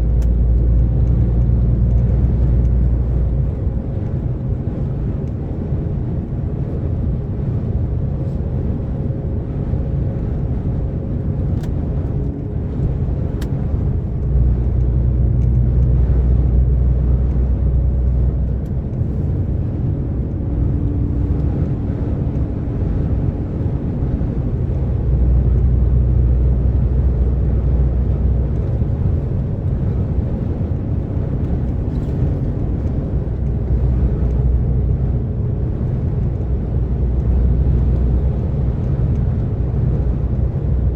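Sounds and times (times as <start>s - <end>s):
lorry diesel engine droning: 0.0s - 40.9s
road and tyre noise: 0.0s - 40.9s.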